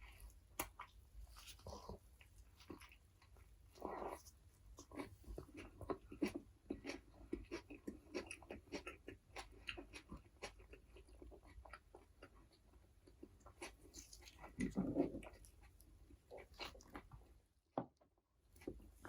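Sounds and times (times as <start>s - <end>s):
wet chewing mouth sounds: 0.0s - 17.4s.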